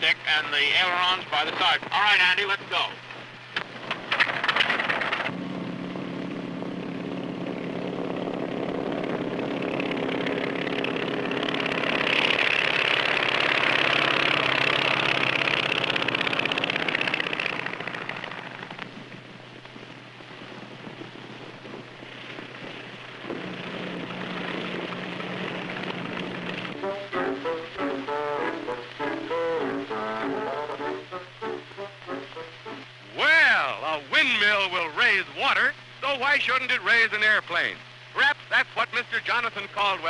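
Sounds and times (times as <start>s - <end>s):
propeller aircraft engine: 0.0s - 33.3s.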